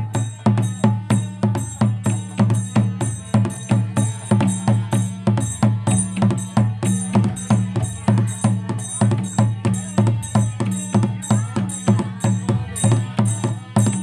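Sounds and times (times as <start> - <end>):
bright percussion beat: 0.0 - 14.0.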